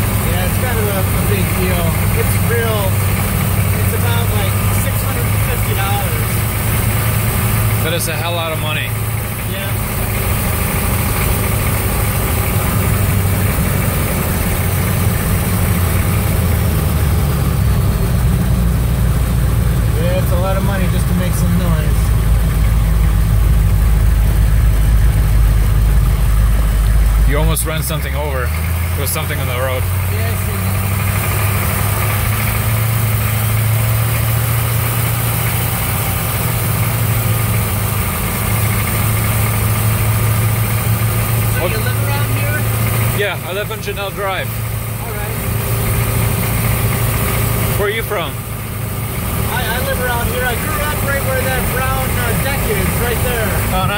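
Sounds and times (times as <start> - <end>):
diesel engine rumbling: 0.0 - 53.9
road noise: 0.0 - 53.9.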